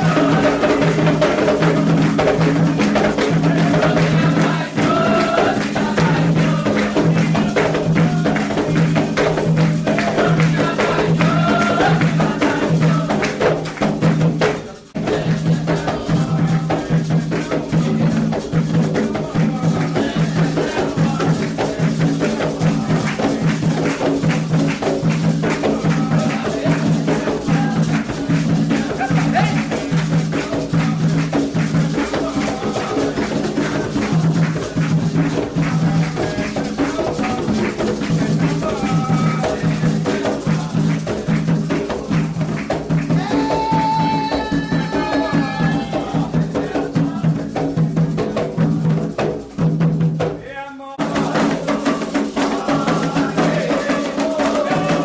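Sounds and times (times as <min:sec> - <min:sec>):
hand drums beating fast rhythm: 0:00.0 - 0:50.4, 0:51.0 - 0:55.0
shaken rattle percussion: 0:00.0 - 0:50.4, 0:51.0 - 0:55.0.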